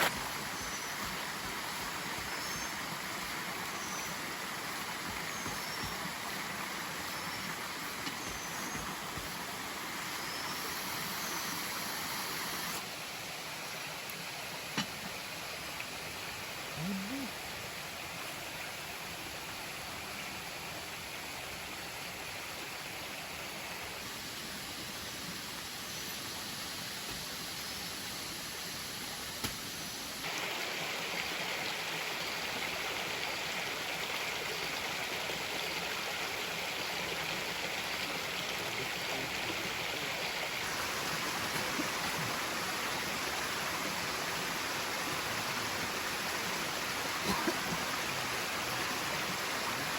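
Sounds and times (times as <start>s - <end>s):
waterfall and stream rushing: 0.0s - 49.9s.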